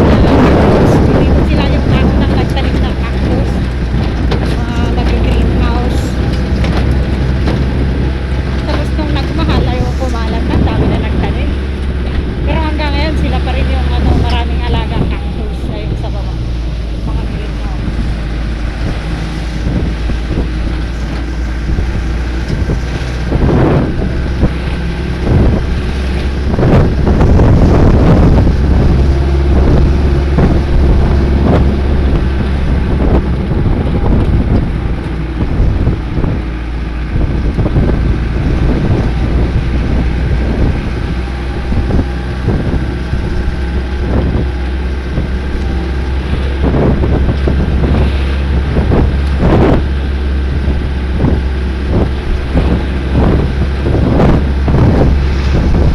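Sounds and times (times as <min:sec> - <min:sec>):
vehicle engine running: 0:00.0 - 0:55.9
wind buffeting microphone: 0:00.0 - 0:55.9.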